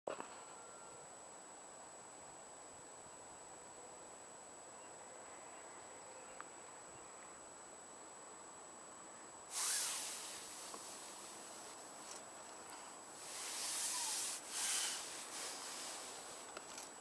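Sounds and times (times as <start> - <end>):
faint hiss with high whine: 0.1 - 17.0.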